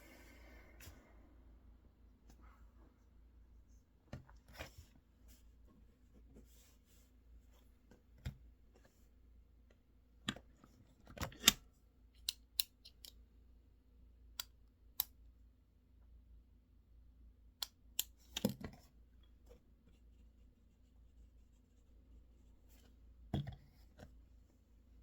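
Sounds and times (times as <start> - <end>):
faint room hum: 0.0 - 25.0.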